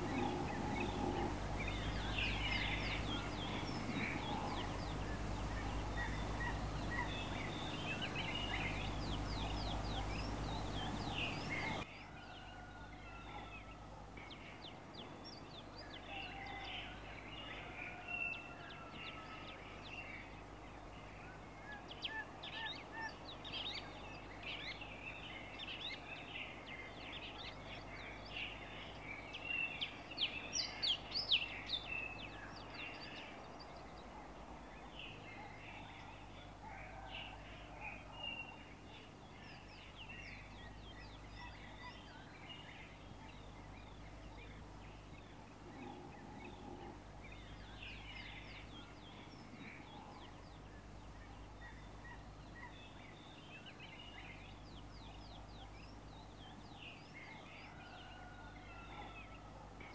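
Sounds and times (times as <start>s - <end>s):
steady low hum: 0.0s - 12.0s, 12.8s - 59.9s
birds chirping: 0.0s - 59.9s.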